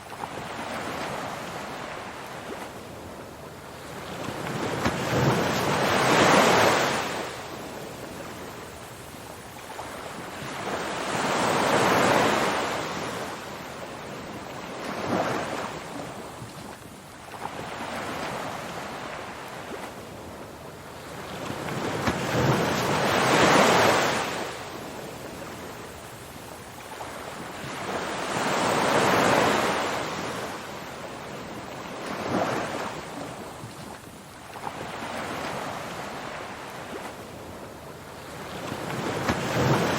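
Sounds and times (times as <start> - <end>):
ocean waves breaking: 0.0 - 8.9, 9.6 - 39.9.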